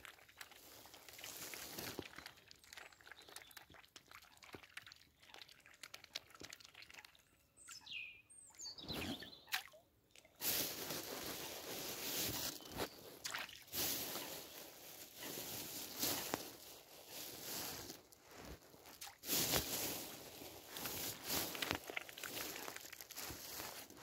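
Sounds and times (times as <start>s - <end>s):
swans dabbling in water: 0.0s - 24.0s.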